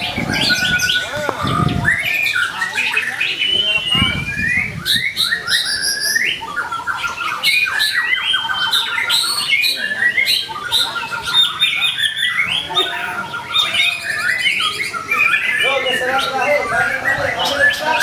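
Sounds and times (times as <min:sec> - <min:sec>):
bird harsh chattering notes: 0:00.0 - 0:18.0
songbird whistling and trilling: 0:00.0 - 0:18.0.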